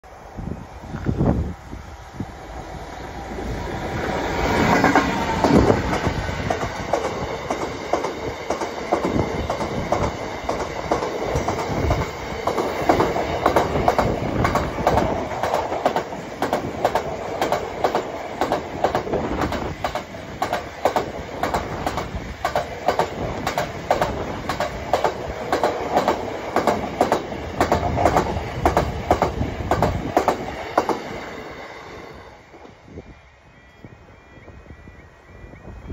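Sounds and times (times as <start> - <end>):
diesel locomotive passing: 0.0 - 35.9.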